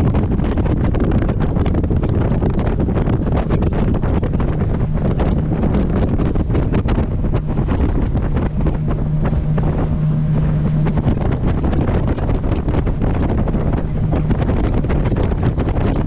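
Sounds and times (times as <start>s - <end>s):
boat engine hum: 0.0s - 16.0s
water slapping against hull: 0.0s - 16.0s
wind buffeting microphone: 0.0s - 16.0s.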